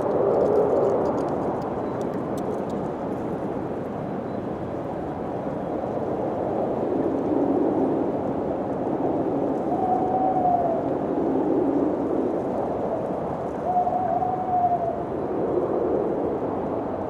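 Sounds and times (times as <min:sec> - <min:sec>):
howling wind: 0:00.0 - 0:17.0.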